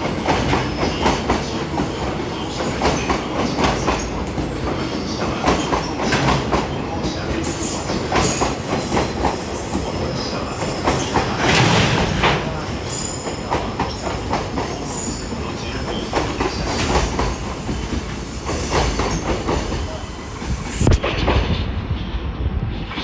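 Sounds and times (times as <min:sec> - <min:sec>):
train wheels clacking over rail joints: 0:00.0 - 0:21.7.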